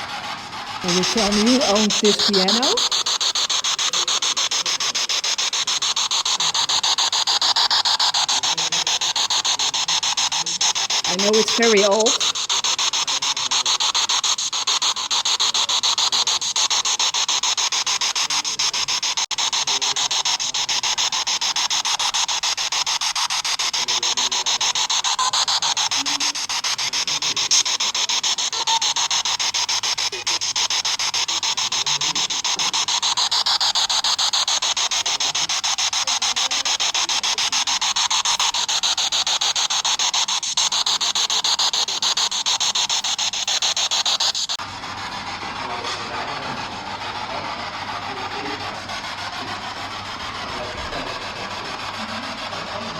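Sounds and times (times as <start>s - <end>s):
radio static sweeping: 0.8s - 44.6s.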